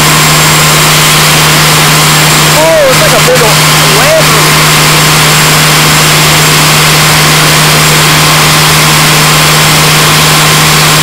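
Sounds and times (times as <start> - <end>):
fire engine pump engine drone: 0.0 - 11.0.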